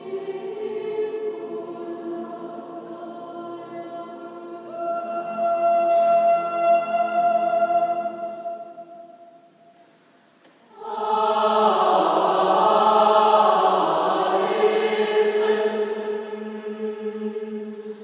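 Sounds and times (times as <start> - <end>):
mixed choir singing: 0.0 - 9.4, 10.7 - 18.0.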